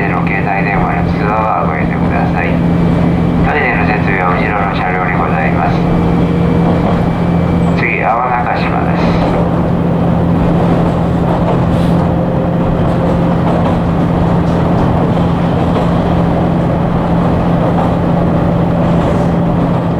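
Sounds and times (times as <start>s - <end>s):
diesel engine drone: 0.0s - 19.9s
running gear rumble: 0.0s - 19.9s.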